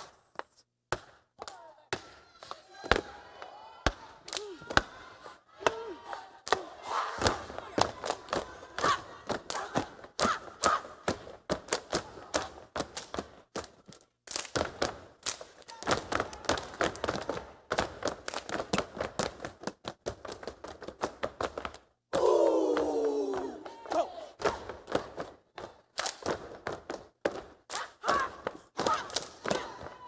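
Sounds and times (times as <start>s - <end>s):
people stomping: 0.9s - 30.0s
people clapping: 1.3s - 30.0s.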